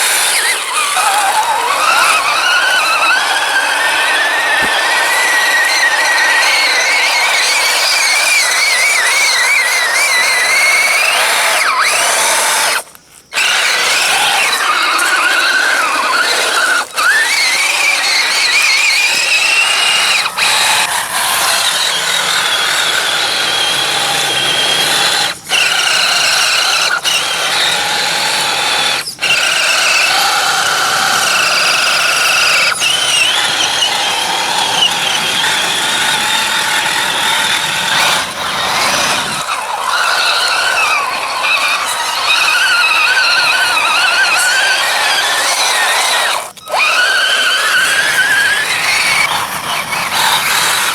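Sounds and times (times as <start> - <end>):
electric motor and gears whining: 0.0 - 50.9.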